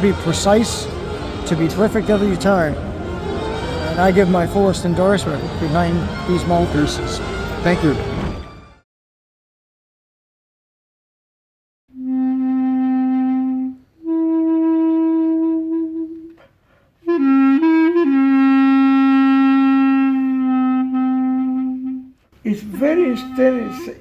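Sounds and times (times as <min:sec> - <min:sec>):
clarinet playing slow phrase: 0:00.0 - 0:08.5, 0:12.0 - 0:24.0.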